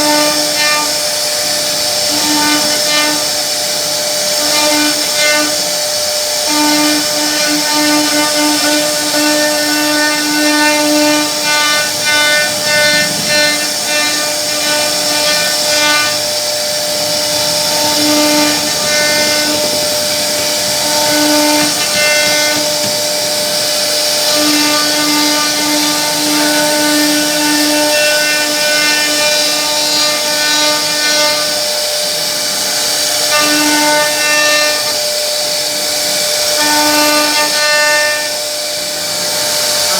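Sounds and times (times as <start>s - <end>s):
cnc router spindle whine: 0.0s - 39.9s
router bit cutting wood: 0.0s - 39.9s.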